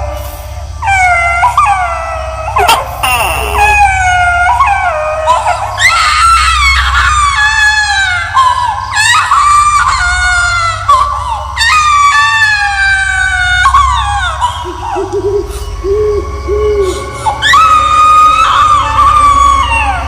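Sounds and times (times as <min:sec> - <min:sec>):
steady low hum: 0:00.0 - 0:20.0
baby screaming and wailing: 0:00.8 - 0:20.0.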